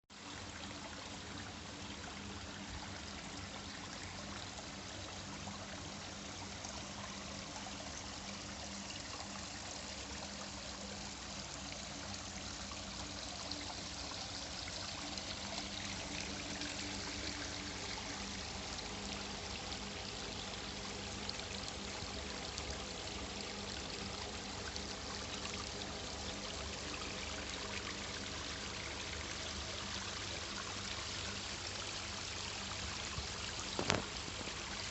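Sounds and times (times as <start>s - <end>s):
faint low hum: 0.2s - 34.9s
water pouring down small waterfall: 3.0s - 34.9s.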